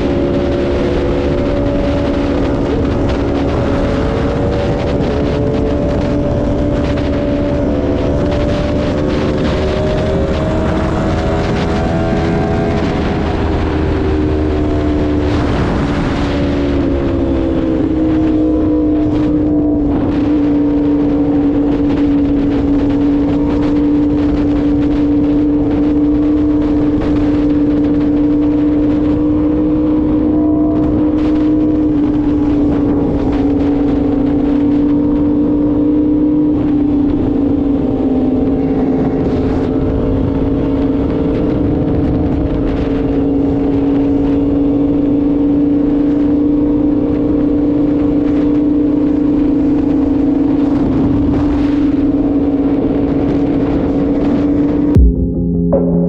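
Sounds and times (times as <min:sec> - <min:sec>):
steady rushing noise: 0:00.0 - 0:48.1
motorcycle engine cruising: 0:00.0 - 0:55.2.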